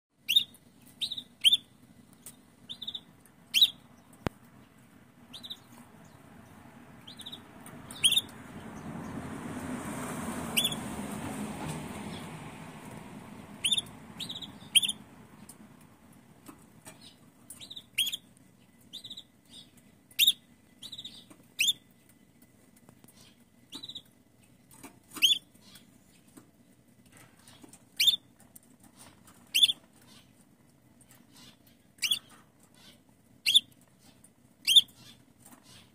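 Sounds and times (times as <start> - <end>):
canary chirps: 0.2 - 9.3, 10.5 - 10.9, 12.0 - 35.9.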